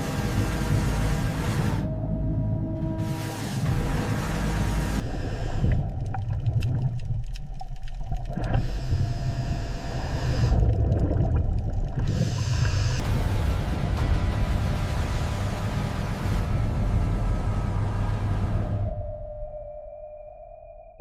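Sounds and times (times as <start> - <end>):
low steady rumble: 0.0 - 20.1.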